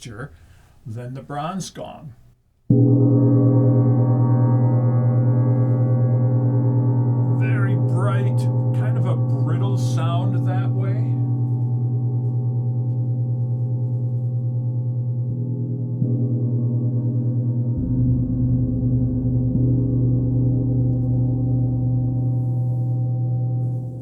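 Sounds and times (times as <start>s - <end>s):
gong ringing: 2.7s - 24.0s
strong low hum: 2.7s - 24.0s.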